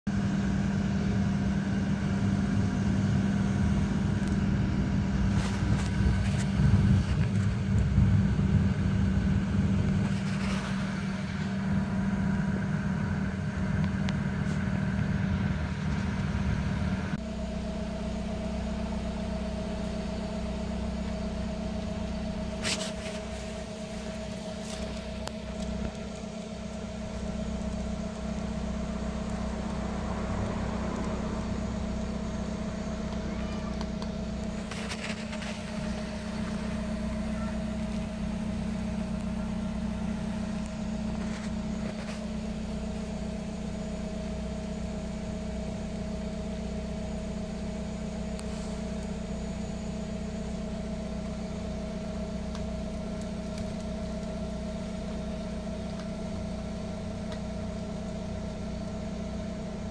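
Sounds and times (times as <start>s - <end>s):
low mechanical hum: 0.1s - 59.9s.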